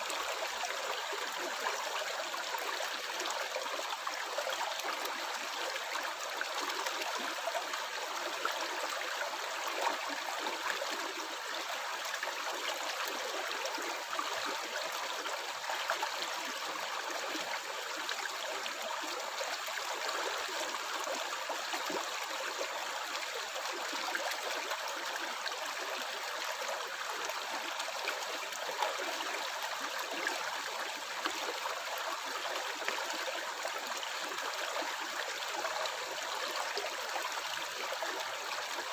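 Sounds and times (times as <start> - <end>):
stream water gurgling: 0.0 - 38.9.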